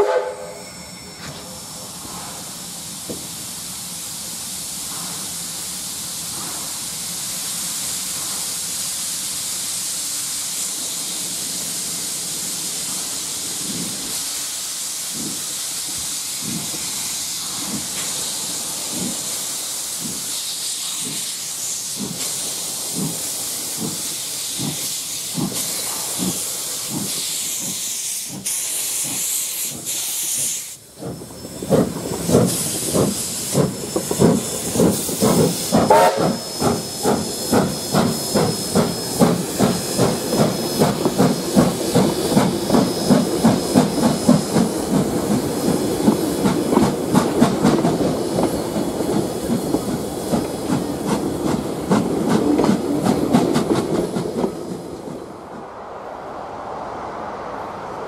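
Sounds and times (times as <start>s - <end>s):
steam hissing: 0.0s - 55.4s
steam locomotive exhaust chuffs: 0.0s - 55.4s.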